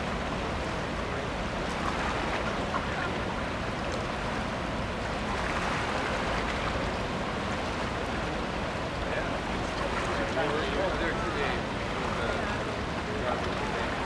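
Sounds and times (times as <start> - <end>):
propeller churned water rushing: 0.0 - 14.0
ship engine low rumble: 0.0 - 14.0.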